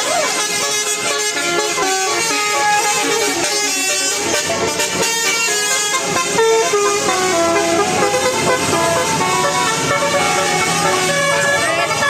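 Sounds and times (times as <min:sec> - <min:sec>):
musical bus horn: 0:00.0 - 0:12.0.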